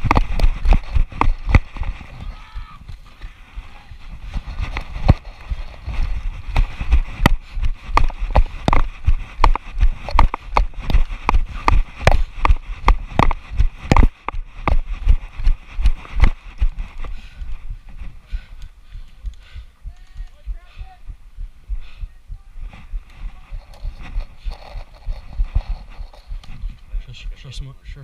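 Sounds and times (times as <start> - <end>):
running footsteps: 0.0 - 27.6.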